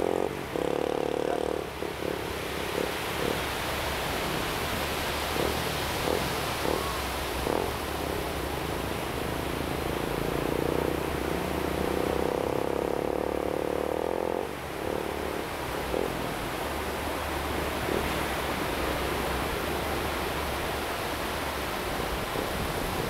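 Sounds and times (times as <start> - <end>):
droning hum: 0.0 - 23.0.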